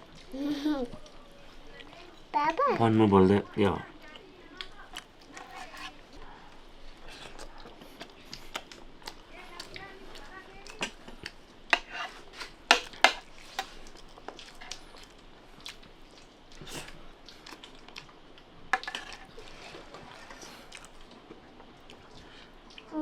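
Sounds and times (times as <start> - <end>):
wet chewing: 0.0 - 3.0, 3.6 - 23.0.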